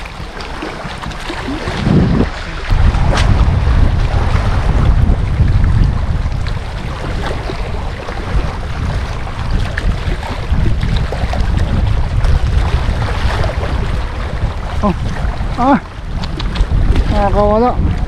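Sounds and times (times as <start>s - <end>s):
waves lapping against rocks: 0.0s - 18.0s
wind buffeting microphone: 0.0s - 18.0s.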